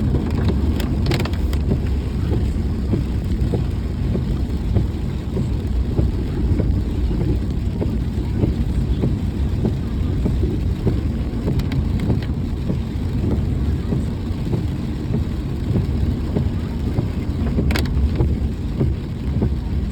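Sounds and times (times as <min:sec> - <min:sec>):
raindrops tapping: 0:00.0 - 0:19.9
vehicle rumbling while driving: 0:00.0 - 0:19.9.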